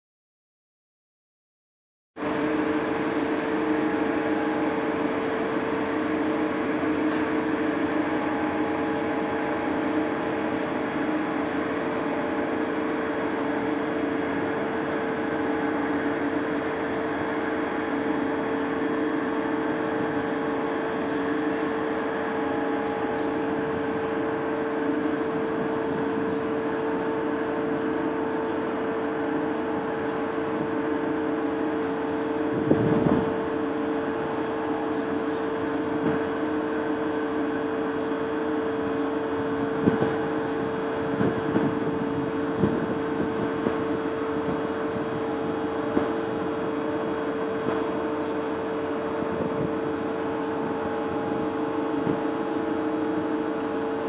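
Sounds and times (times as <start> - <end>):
ship engines droning: 2.2 - 54.0.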